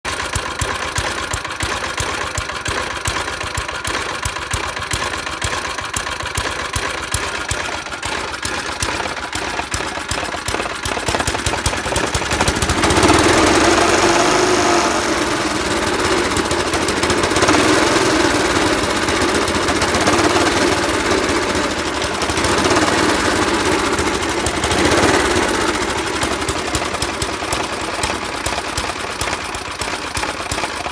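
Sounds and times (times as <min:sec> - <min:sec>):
lawn mower engine revving: 0:00.1 - 0:30.9.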